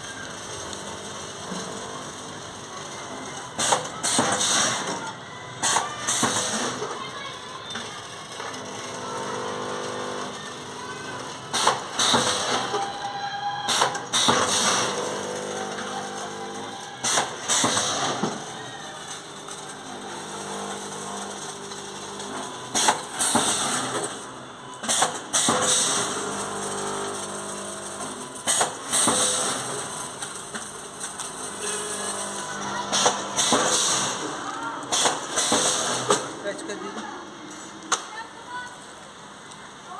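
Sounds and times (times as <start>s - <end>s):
machine motor hum: 0.0s - 5.0s, 8.0s - 13.1s, 13.7s - 37.5s.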